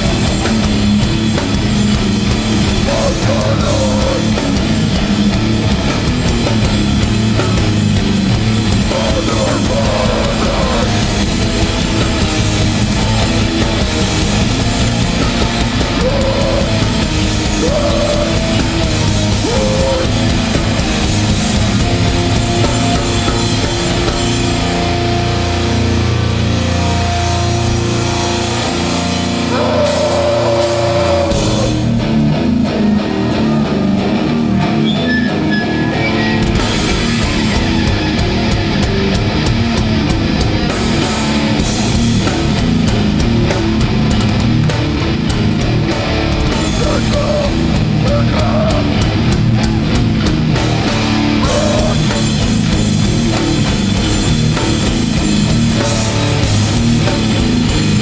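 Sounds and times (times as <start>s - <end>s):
distorted guitars and bass: 0.0s - 58.0s
drums fast driving beat: 0.0s - 58.0s.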